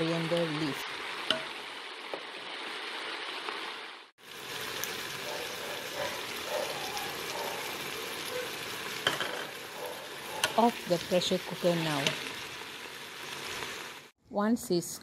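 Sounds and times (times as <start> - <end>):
vegetables sizzling in oil: 0.0 - 14.2.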